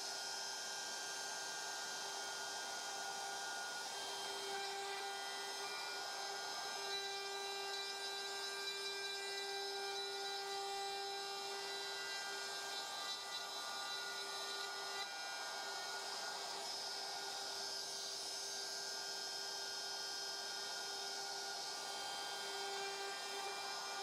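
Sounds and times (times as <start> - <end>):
router cutting wood hiss: 0.0 - 24.0
router motor whine: 0.0 - 24.0.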